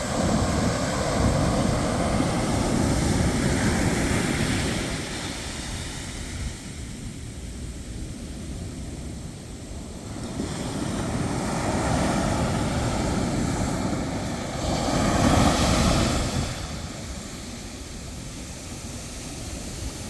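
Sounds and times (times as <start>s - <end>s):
ocean wave washing in: 0.0s - 6.9s, 10.0s - 20.0s.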